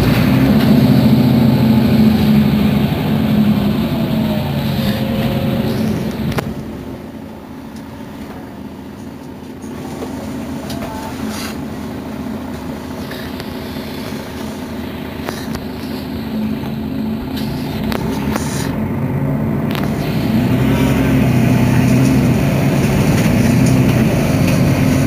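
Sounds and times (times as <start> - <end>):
bus engine humming: 0.0 - 25.0.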